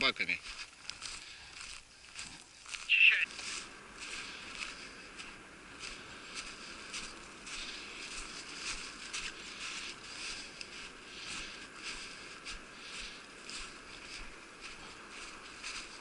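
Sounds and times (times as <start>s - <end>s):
footsteps crunching through snow: 0.1s - 16.0s.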